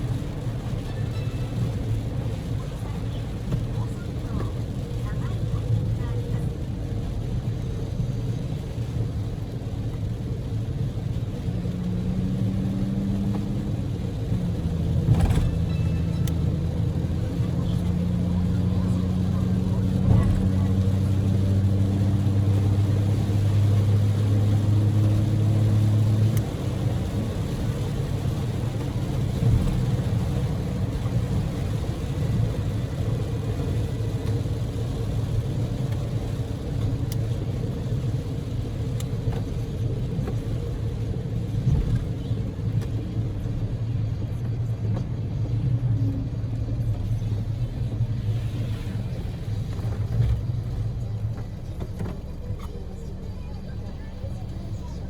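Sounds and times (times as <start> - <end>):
car engine drone: 0.0 - 55.0
tyre and road noise: 0.0 - 55.0.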